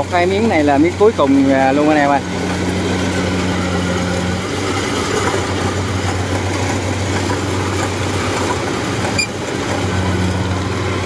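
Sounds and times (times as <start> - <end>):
diesel engine drone: 0.0 - 11.0
machinery rattling: 0.0 - 11.0.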